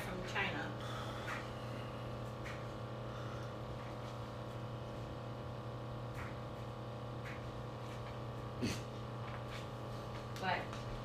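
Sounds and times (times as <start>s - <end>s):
coffee maker heating hum: 0.0s - 11.0s.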